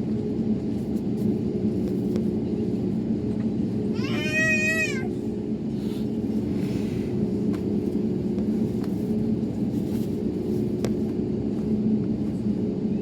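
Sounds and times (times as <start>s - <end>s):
jet engines droning in cabin: 0.0s - 13.0s.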